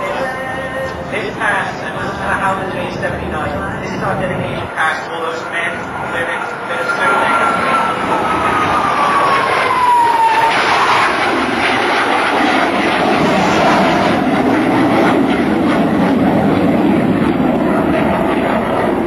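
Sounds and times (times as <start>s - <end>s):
jet flyby roar: 0.0s - 19.0s.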